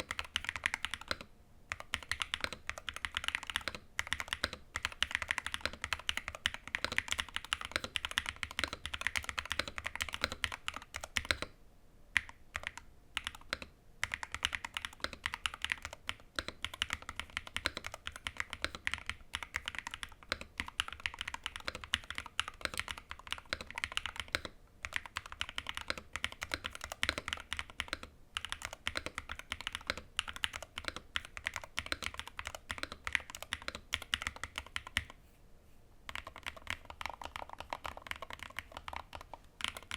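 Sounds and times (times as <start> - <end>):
fast keyboard typing clacks: 0.0 - 11.5, 12.2 - 35.1, 36.1 - 39.9.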